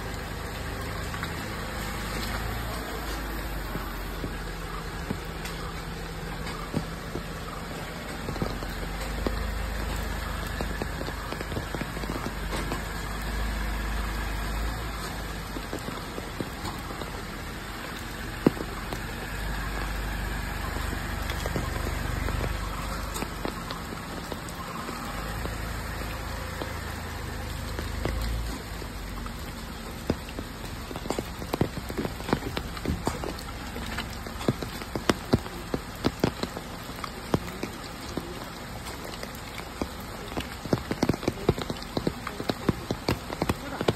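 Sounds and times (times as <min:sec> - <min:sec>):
car engine running at low speed: 0:00.0 - 0:43.9
water drops tapping on leaves: 0:00.0 - 0:43.9.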